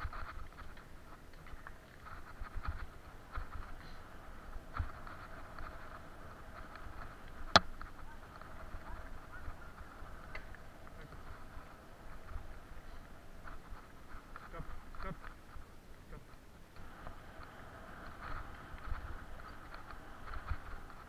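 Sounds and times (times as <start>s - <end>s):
bicycle rattling on dirt trail: 0.0s - 21.0s.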